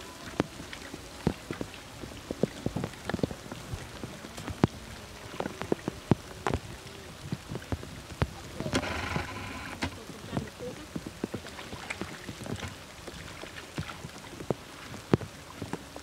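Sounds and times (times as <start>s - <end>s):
raindrops tapping on leaves: 0.0s - 16.0s.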